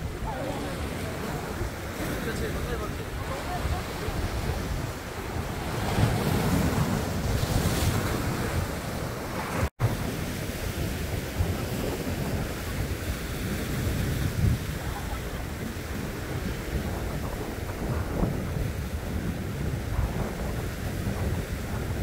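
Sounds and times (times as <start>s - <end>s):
waves breaking over rocks: 0.0s - 22.0s
wind buffeting microphone: 0.0s - 22.0s.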